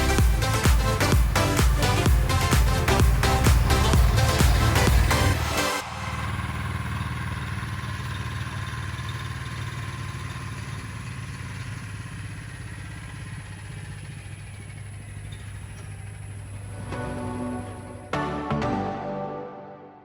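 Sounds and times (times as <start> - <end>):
engine idling: 0.0 - 18.1.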